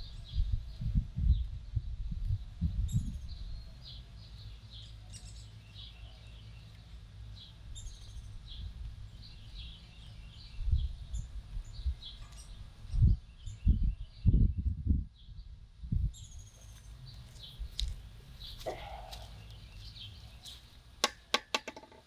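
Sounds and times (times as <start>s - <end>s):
small birds chirping: 0.0s - 21.8s.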